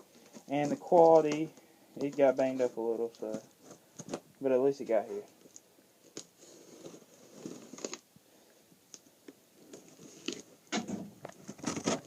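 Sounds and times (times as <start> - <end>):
handling crinkles and rustles: 0.0 - 8.1, 8.9 - 12.0.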